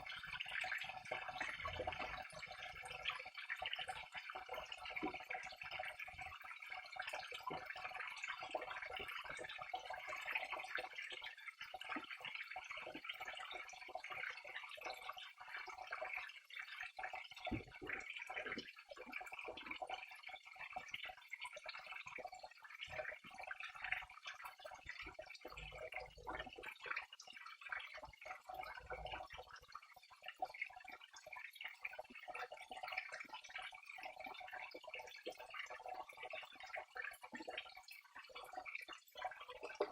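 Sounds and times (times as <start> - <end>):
small stream trickling: 0.0 - 39.9
water splashes and drips: 0.0 - 39.9.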